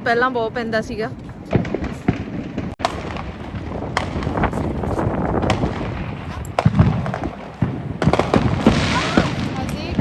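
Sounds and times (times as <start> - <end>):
fireworks crackling: 0.0 - 10.0
sharp firecracker pops: 1.3 - 10.0.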